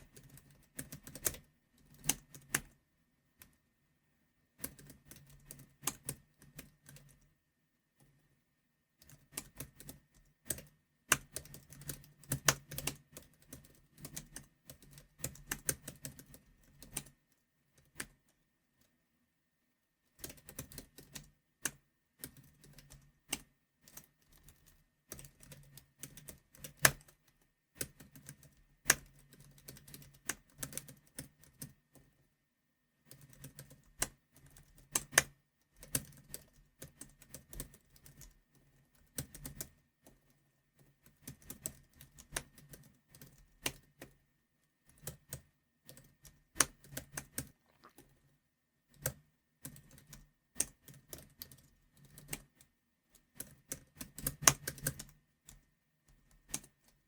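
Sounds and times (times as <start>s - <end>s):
computer keyboard typing: 0.0s - 2.8s, 4.6s - 7.4s, 9.0s - 18.9s, 20.1s - 32.2s, 33.0s - 44.2s, 44.8s - 48.2s, 48.9s - 57.0s.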